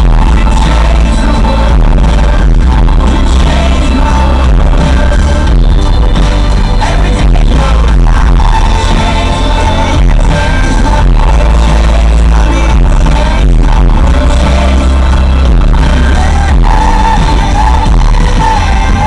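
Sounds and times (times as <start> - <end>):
loud music with singing: 0.0 - 19.0.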